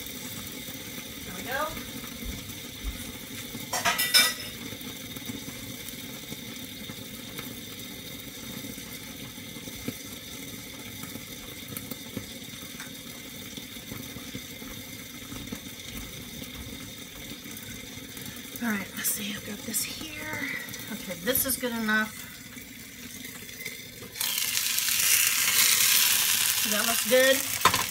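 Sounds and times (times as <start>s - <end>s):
eggs sizzling in a skillet: 0.0s - 27.9s.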